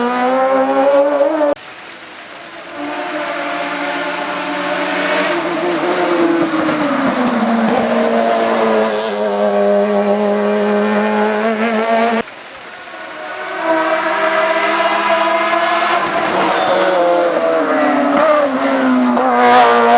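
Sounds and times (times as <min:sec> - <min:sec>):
race car engine at high revs: 0:00.0 - 0:01.6, 0:02.4 - 0:19.9.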